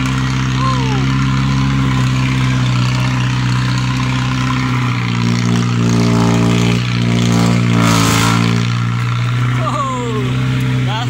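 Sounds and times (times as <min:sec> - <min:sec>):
vehicle engine straining under load: 0:00.0 - 0:11.0.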